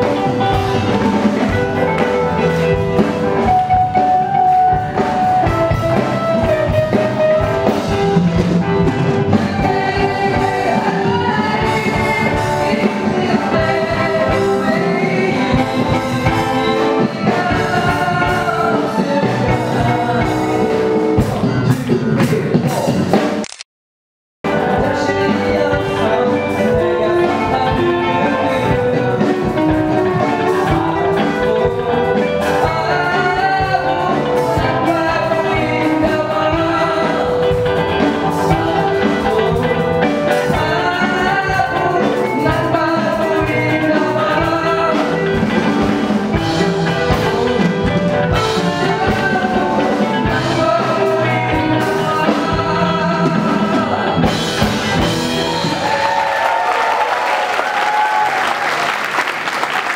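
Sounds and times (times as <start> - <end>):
person singing: 0.0 - 23.2, 24.5 - 57.7
rock band playing: 0.0 - 23.5, 24.4 - 58.3.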